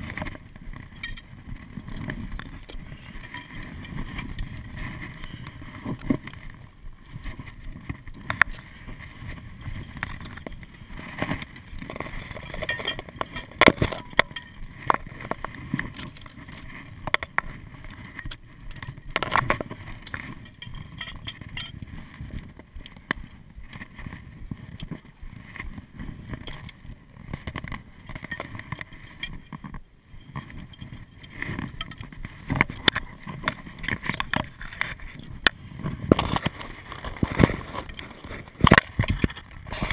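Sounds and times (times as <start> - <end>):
climbing gear clinking: 0.0 - 39.9
footsteps on scree: 0.0 - 39.9.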